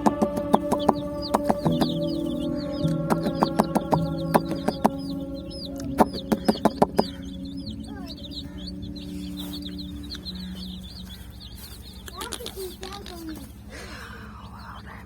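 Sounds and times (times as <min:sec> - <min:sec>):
chicks peeping: 0:00.0 - 0:15.0
low background notes: 0:00.0 - 0:15.0.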